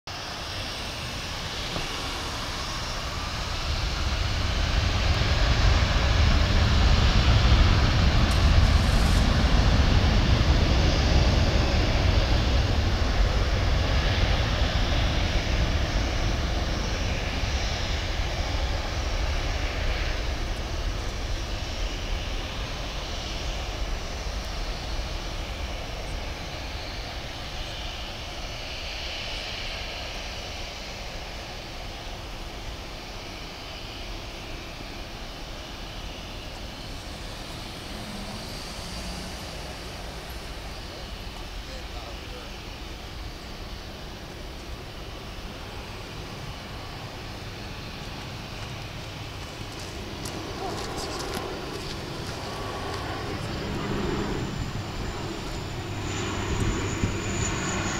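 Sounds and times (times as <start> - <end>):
jet engines at takeoff thrust: 0.0 - 57.9.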